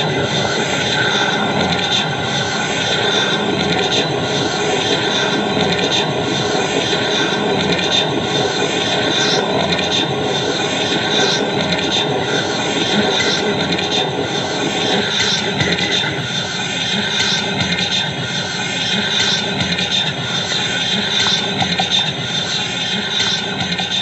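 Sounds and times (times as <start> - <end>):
harsh distorted noise music: 0.0 - 24.0.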